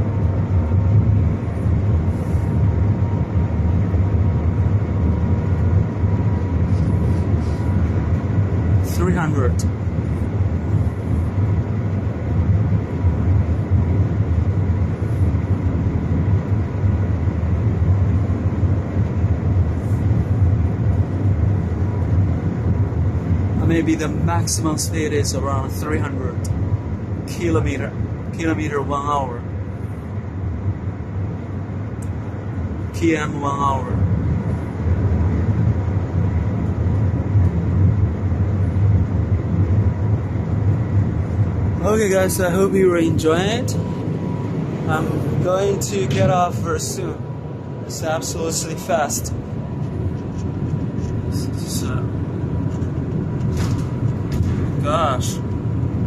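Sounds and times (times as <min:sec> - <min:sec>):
train cabin rumble and air rush: 0:00.0 - 0:56.0.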